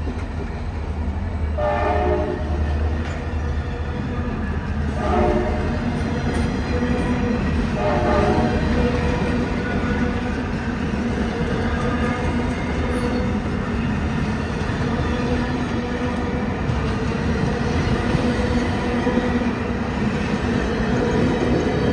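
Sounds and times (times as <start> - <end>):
passing train rumble: 0.0 - 21.9.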